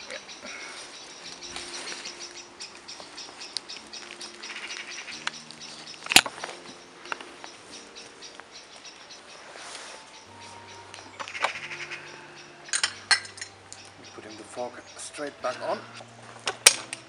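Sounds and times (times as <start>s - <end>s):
night insects chirping: 0.0s - 17.0s.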